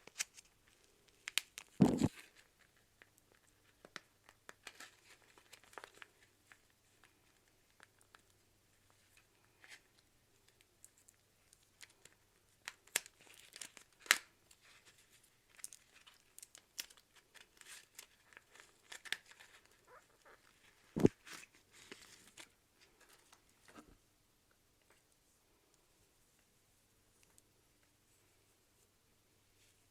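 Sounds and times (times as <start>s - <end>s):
crinkling and crackling: 0.0s - 24.0s.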